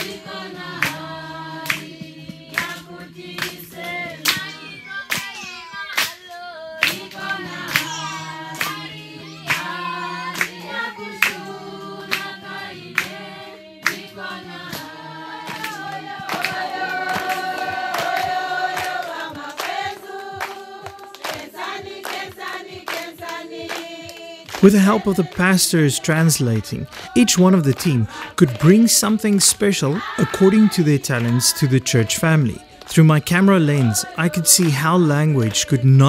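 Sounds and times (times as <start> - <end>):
congregation singing in chorus: 0.0 - 36.0
hand claps: 0.0 - 36.0.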